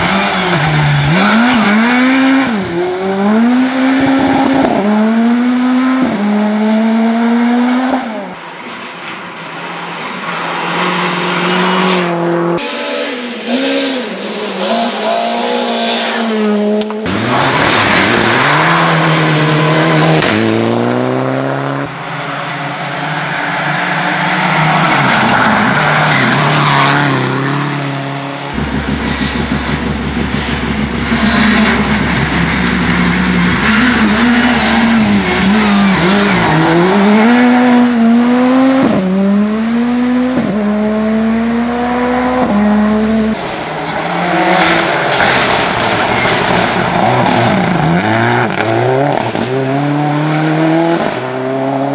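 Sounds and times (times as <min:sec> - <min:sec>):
rally car engines revving hard: 0:00.0 - 0:08.4, 0:10.1 - 0:51.9.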